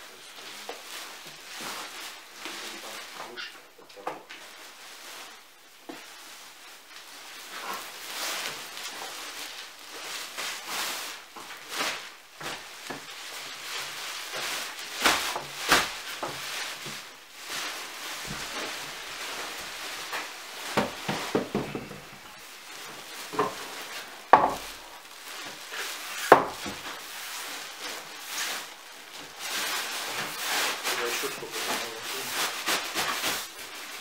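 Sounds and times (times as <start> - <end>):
plastic garbage bags rustling: 0.0 - 34.0.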